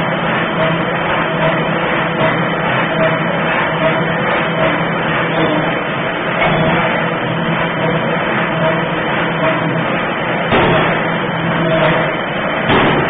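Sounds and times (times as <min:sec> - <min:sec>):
forging hammer machine running: 0:00.0 - 0:13.0.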